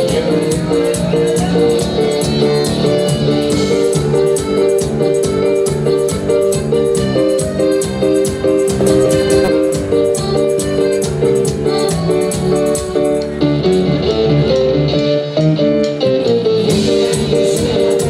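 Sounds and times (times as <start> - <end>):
percussion beat: 0.0 - 13.4, 16.6 - 18.0
electronic keyboard melody: 0.0 - 18.0.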